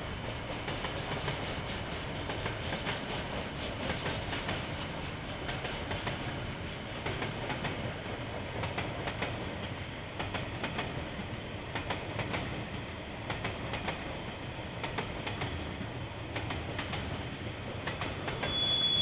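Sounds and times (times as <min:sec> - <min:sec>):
train wagons rumbling: 0:00.0 - 0:19.0
wheels clicking on track: 0:00.3 - 0:11.0, 0:11.7 - 0:14.1, 0:14.8 - 0:19.0.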